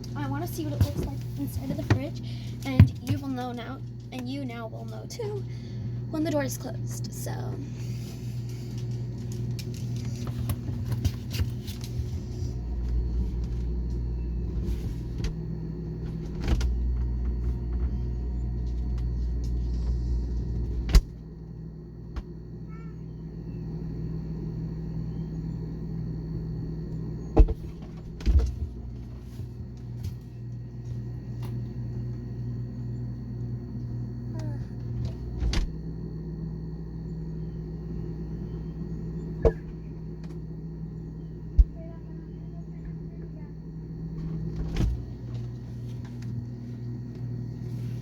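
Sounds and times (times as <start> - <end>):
muffled refrigerator hum: 0.0 - 48.0.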